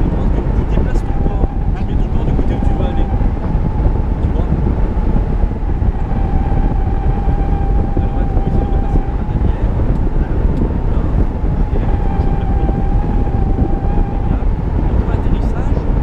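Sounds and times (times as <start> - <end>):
wind rushing over microphone: 0.0 - 16.0
thin steady whistle: 0.8 - 15.8.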